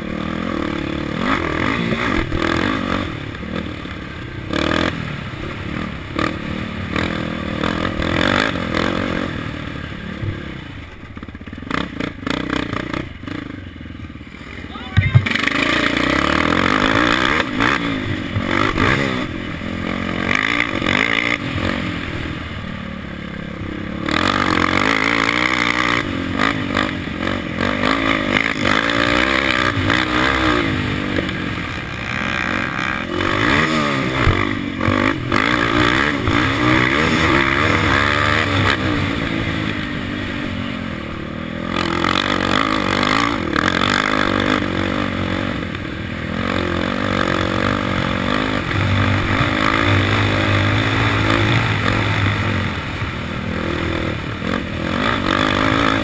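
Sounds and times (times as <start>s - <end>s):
quad engine revving hard: 0.0s - 3.6s, 4.4s - 9.8s, 14.4s - 22.4s, 24.0s - 56.0s.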